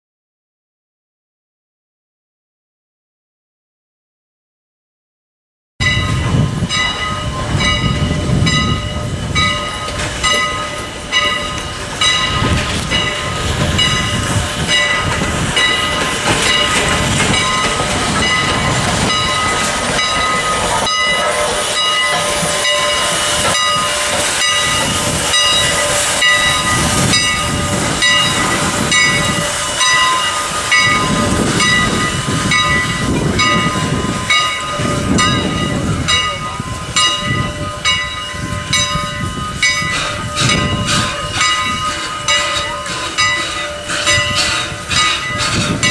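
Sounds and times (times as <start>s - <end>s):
high ringing: 5.8s - 45.9s
low pulsing locomotive rumble: 5.8s - 45.9s
steam hiss: 6.0s - 45.9s.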